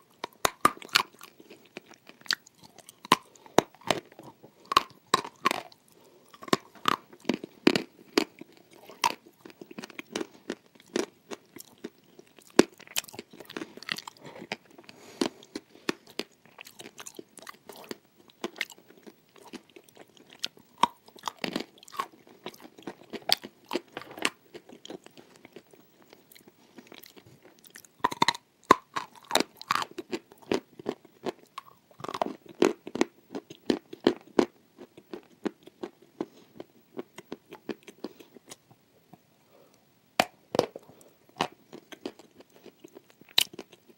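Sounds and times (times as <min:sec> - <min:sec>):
crunchy chewing: 0:00.0 - 0:38.7, 0:40.6 - 0:43.9.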